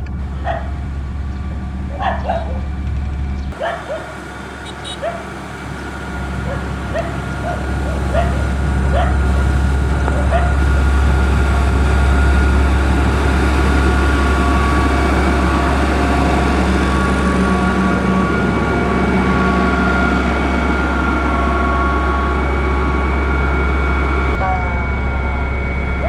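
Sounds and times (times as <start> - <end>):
heavy diesel engine rumbling: 0.0 - 26.0.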